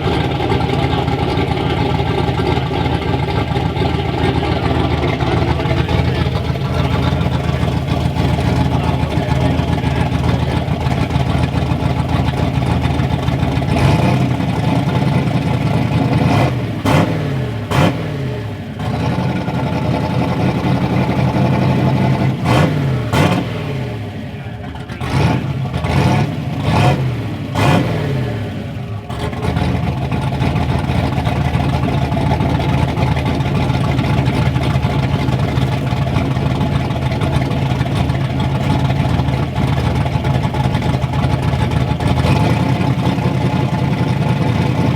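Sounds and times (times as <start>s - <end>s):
truck engine idling and revving: 0.0s - 44.9s.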